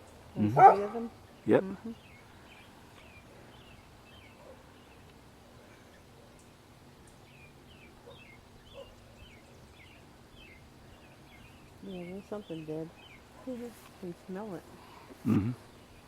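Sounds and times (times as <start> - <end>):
small songbird chirping: 0.0 - 14.9, 15.6 - 16.0.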